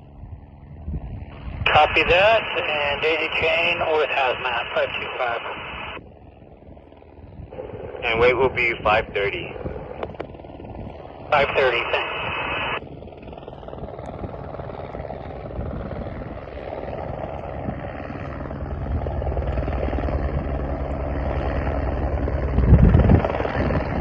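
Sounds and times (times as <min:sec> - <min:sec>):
helicopter rotor and turbine: 0:00.0 - 0:24.0.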